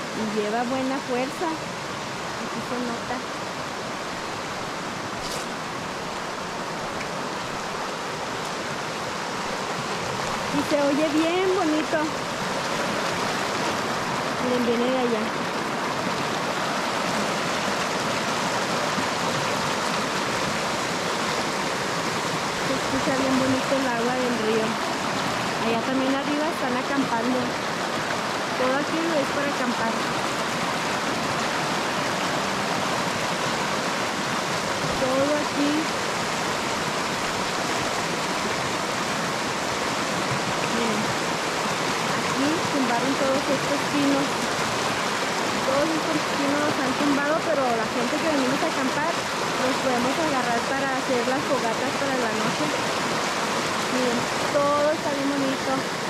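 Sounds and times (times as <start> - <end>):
river rushing over rocks: 0.0 - 56.0.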